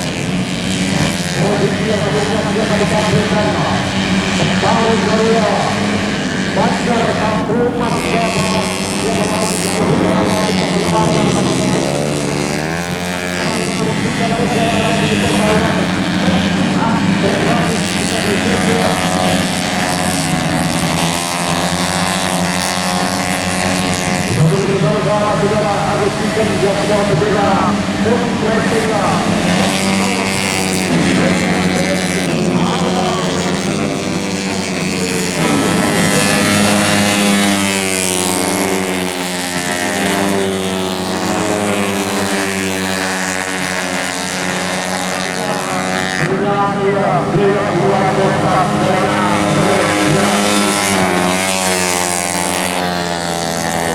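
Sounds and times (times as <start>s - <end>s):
scooter engines revving: 0.0s - 53.9s.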